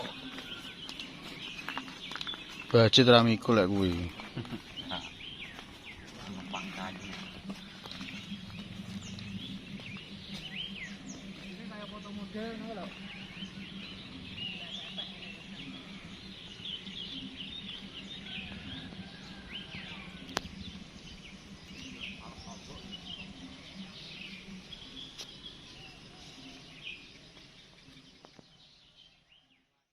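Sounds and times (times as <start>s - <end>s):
low pulsing hum: 0.0s - 29.4s
small birds chirping: 0.0s - 29.8s.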